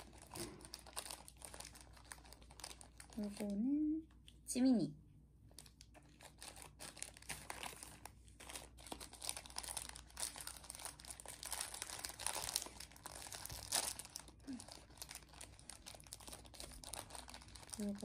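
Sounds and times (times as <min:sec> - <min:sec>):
plastic wrapper crackling: 0:00.0 - 0:04.4, 0:05.4 - 0:18.0.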